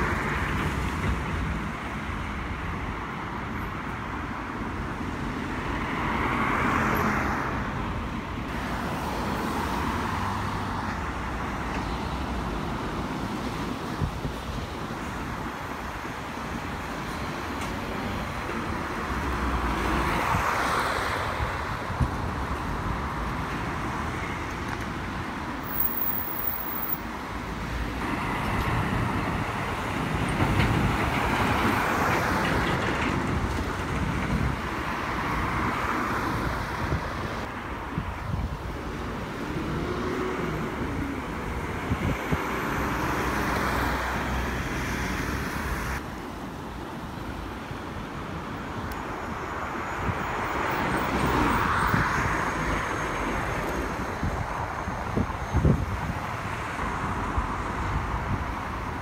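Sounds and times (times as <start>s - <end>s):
lorries and cars driving past: 0.0s - 59.0s.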